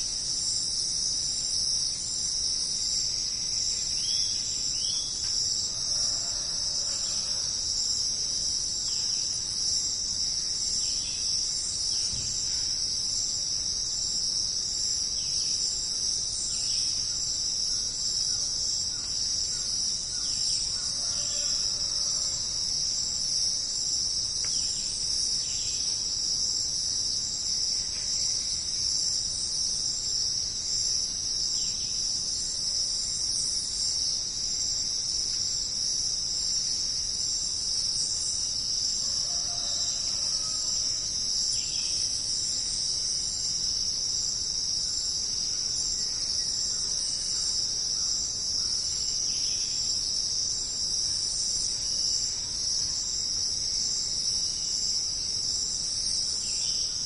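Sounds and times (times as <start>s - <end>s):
insect chorus trilling: 0.0s - 57.0s.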